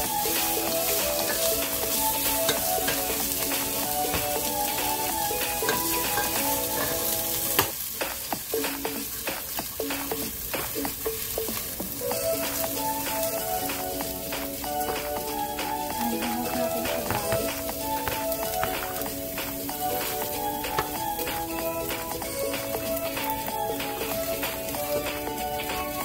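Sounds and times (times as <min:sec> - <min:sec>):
chicken sizzling in oil: 0:00.0 - 0:26.0
light background music: 0:00.0 - 0:26.0.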